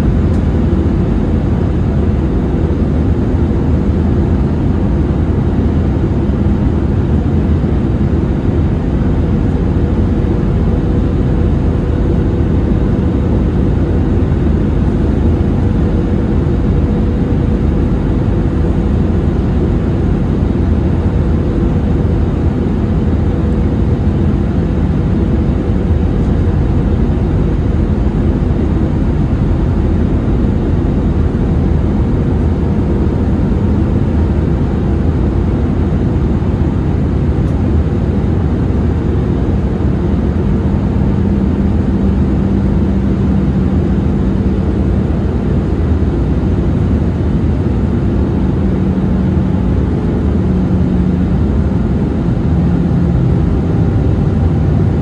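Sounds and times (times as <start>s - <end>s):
jet engine and airflow drone: 0.0s - 55.0s.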